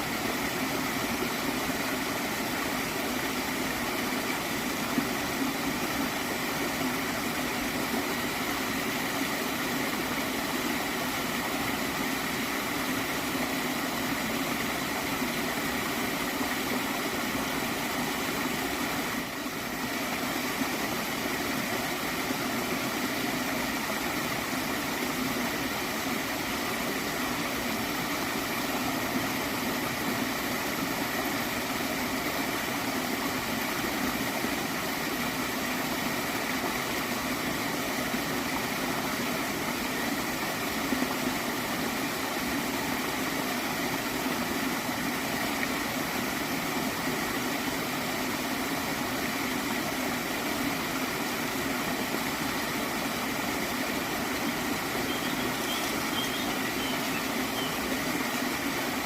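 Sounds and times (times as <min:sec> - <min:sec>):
stream water flowing and gurgling: 0:00.0 - 0:59.0.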